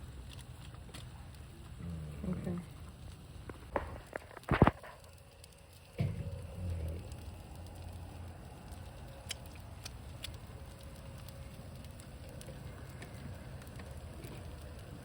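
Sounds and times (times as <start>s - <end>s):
low steady rumble: 0.0s - 15.0s
meat sizzling on a grill: 0.0s - 15.0s
sharp crackles and pops: 0.0s - 15.0s.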